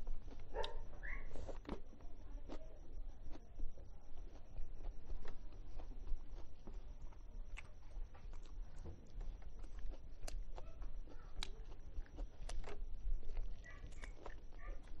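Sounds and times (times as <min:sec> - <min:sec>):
chewing with wet mouth smacks: 0:00.0 - 0:15.0.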